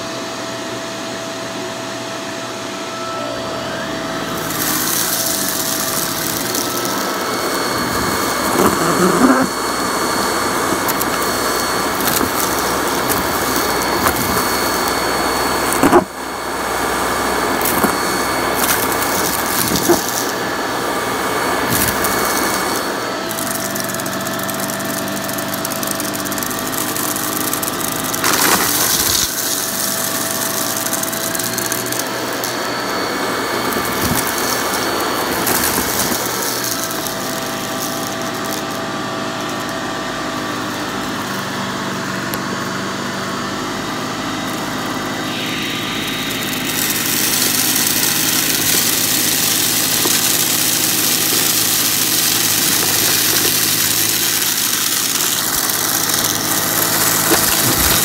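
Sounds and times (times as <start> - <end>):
upright vacuum cleaner on carpet: 0.0 - 58.0.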